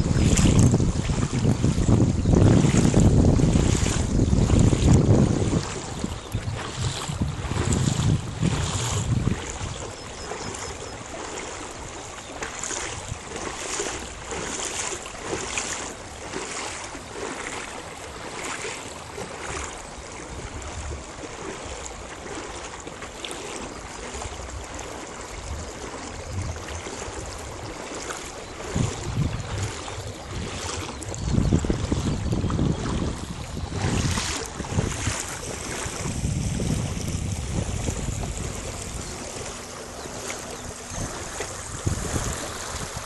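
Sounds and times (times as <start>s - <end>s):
wind rumble on microphone: 0.0s - 22.6s, 23.5s - 43.0s
small waves lapping against boat: 0.0s - 43.0s.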